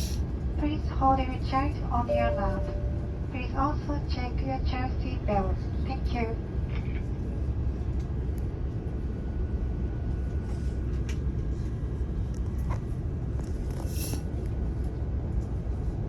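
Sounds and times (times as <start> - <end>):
jet engines and cabin air rumble: 0.0 - 16.0.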